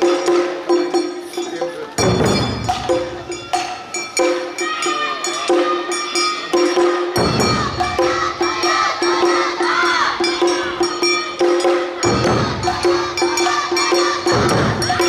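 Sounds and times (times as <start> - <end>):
drums: 0.0 - 15.0
hand gong struck rhythmically: 2.0 - 4.6, 5.5 - 15.0.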